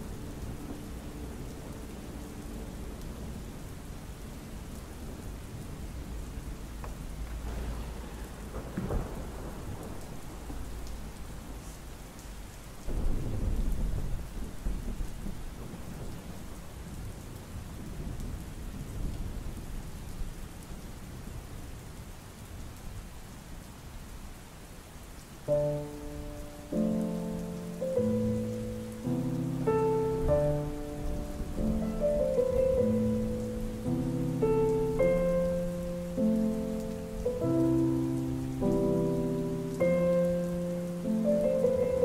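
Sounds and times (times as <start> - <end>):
thunder rumbling: 0.0 - 19.9, 25.6 - 42.0
steady rain falling: 0.0 - 42.0.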